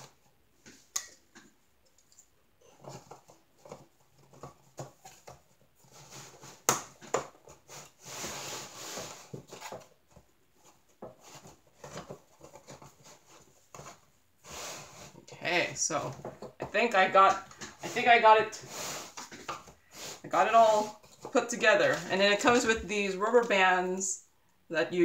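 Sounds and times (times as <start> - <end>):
wood scraping: 2.7 - 23.6.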